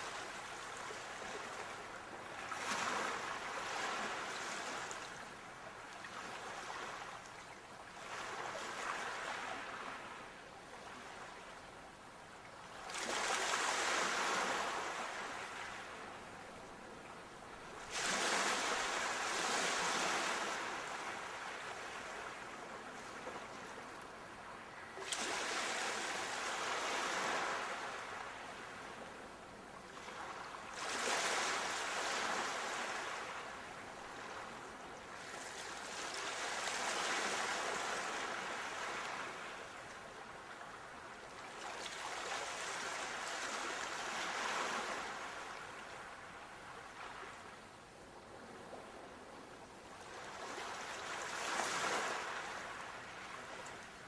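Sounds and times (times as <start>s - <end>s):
sea waves breaking on shore: 0.0s - 7.3s, 12.7s - 16.5s, 17.6s - 47.7s, 48.4s - 54.0s.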